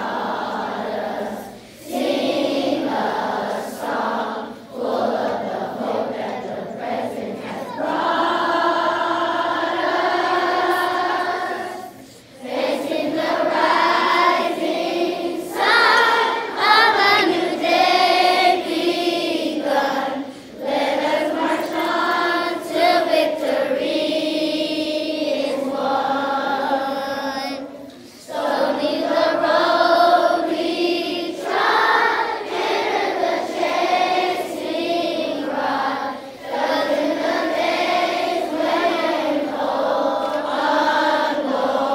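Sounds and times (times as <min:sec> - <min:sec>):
group of people singing: 0:00.0 - 0:41.9.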